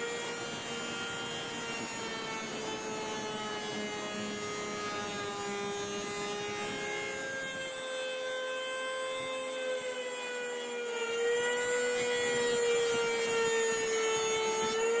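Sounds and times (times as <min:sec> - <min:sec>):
electric planer whining: 0:00.0 - 0:15.0.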